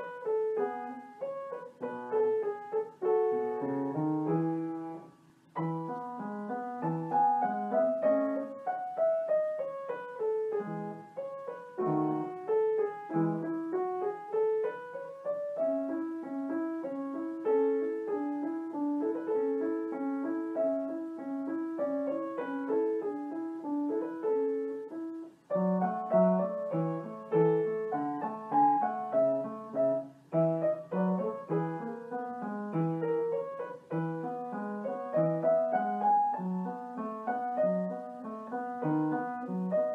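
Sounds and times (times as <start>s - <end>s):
solo piano music: 0.0s - 39.9s.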